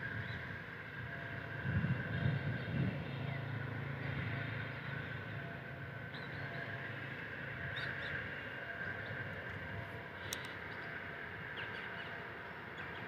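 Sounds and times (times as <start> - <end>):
higher drone: 0.0 - 13.0
low engine hum: 0.0 - 13.0.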